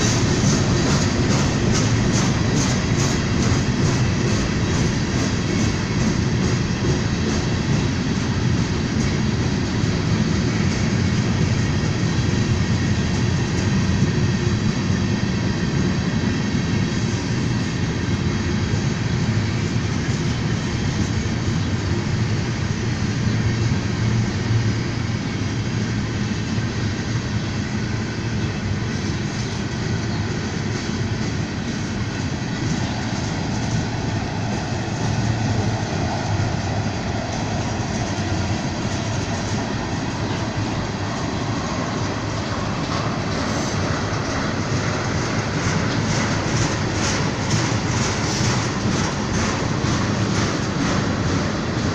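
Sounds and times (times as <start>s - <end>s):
freight train wheels rumbling on rails: 0.0s - 51.9s.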